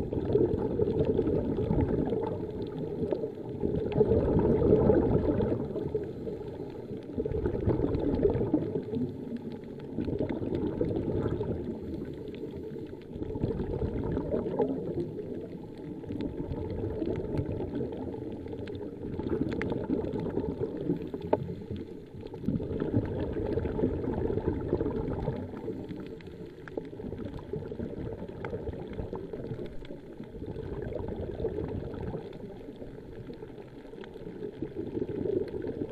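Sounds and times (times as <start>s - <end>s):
underwater exhaled bubbles: 0.0s - 35.9s.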